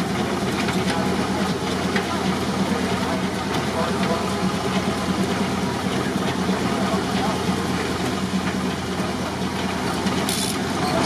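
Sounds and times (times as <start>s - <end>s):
steam tractor running: 0.0s - 11.0s.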